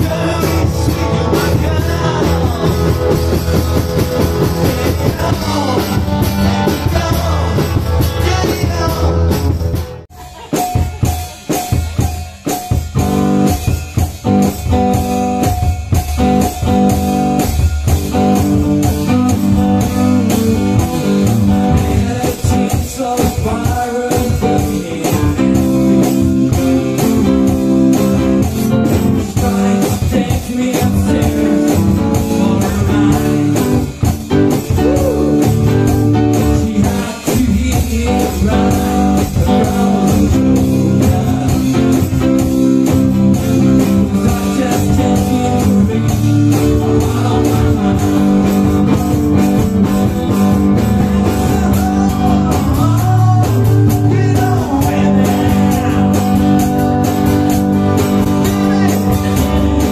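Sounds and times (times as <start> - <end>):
electric guitar: 0.0 - 59.9
foot-played bass drum: 0.0 - 59.9.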